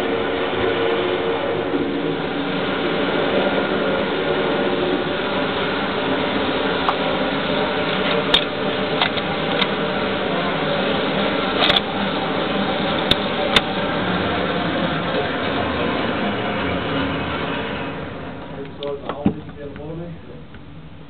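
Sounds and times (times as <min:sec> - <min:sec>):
ventilation fan hum: 0:00.0 - 0:21.0.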